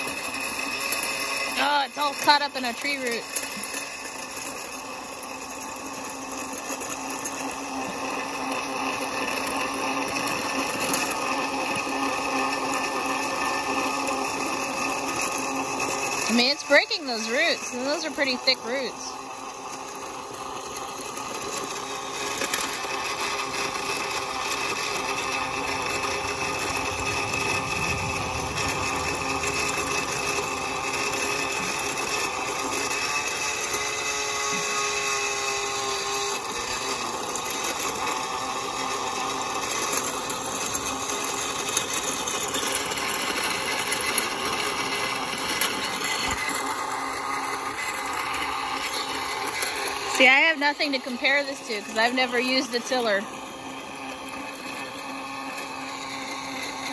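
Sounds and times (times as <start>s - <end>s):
electric tiller motor whining: 0.0s - 56.9s
tines churning through soil: 0.0s - 56.9s.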